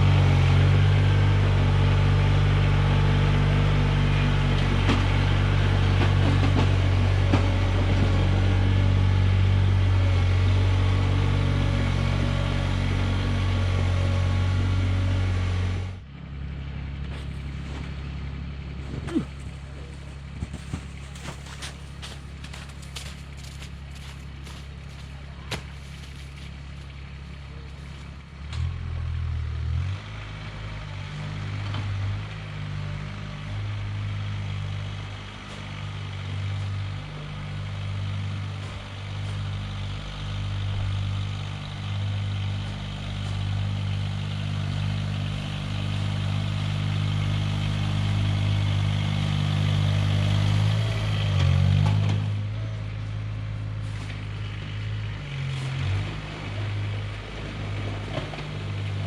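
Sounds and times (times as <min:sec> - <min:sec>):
snow-clearing machine engine: 0:00.0 - 0:59.0.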